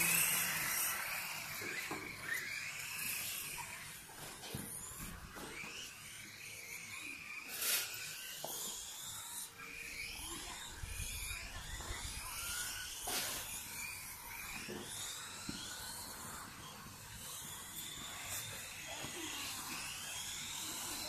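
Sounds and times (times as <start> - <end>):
rc car motors whining: 0.0 - 21.0.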